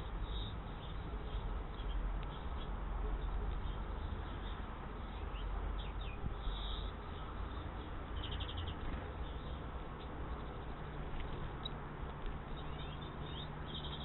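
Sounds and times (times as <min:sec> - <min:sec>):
low background rumble: 0:00.0 - 0:14.0
songbirds chirping: 0:00.0 - 0:14.0.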